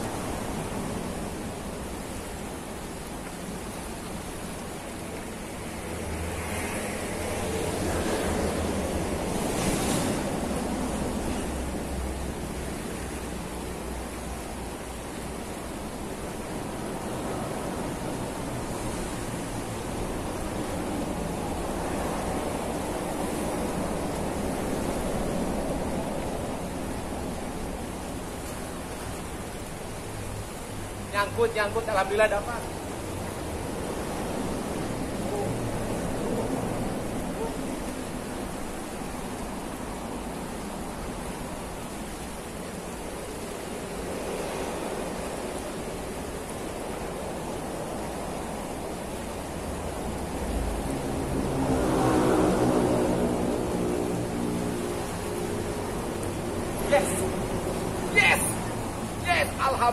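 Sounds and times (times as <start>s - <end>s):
river rushing over shallows: 0.0s - 59.9s.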